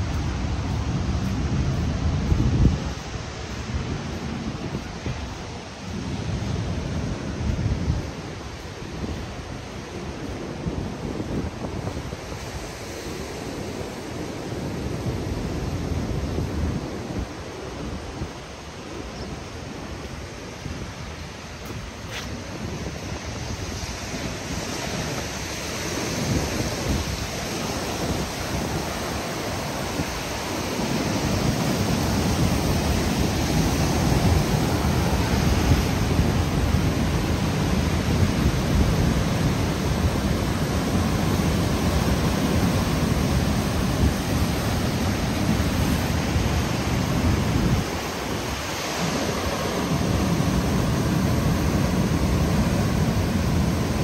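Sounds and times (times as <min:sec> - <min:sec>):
surf rumbling: 0:00.0 - 0:54.0
wind buffeting the microphone: 0:00.0 - 0:54.0.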